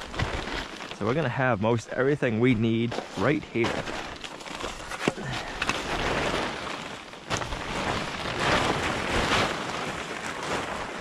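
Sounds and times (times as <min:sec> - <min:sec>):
plastic wrap rustling and crinkling: 0:00.0 - 0:11.0.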